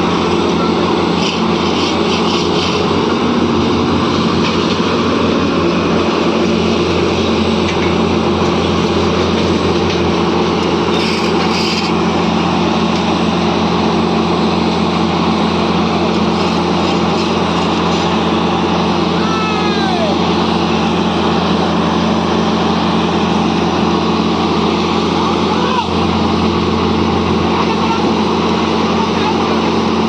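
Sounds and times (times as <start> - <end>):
small engine droning: 0.0 - 30.0.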